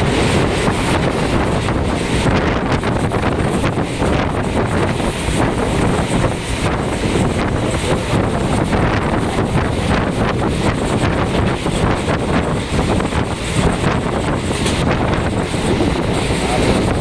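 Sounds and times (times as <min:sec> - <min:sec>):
electric train running: 0:00.0 - 0:17.0
wind buffeting microphone: 0:00.0 - 0:17.0.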